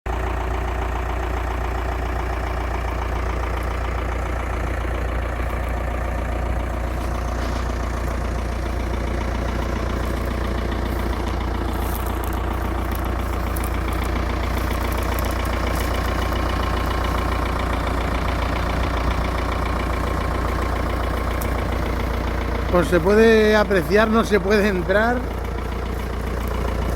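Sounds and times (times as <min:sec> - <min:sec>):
tractor engine running: 0:00.1 - 0:26.9.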